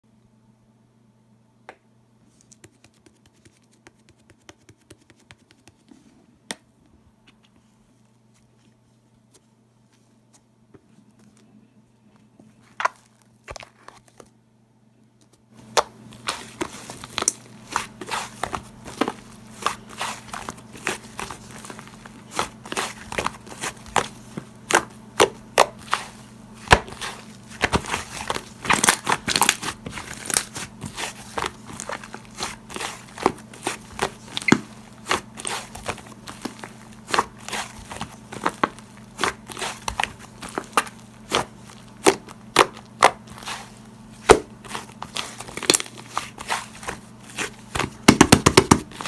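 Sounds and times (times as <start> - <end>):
steady low hum: 5.0 - 49.0.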